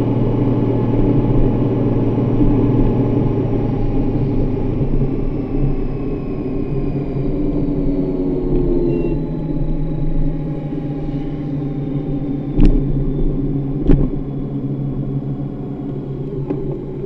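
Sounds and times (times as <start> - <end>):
motorcycle engine hum: 0.0 - 17.0
road noise: 0.0 - 17.0.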